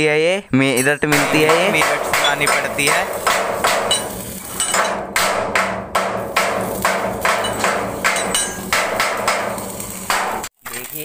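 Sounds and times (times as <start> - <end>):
hammer blows on steel: 1.1 - 10.6.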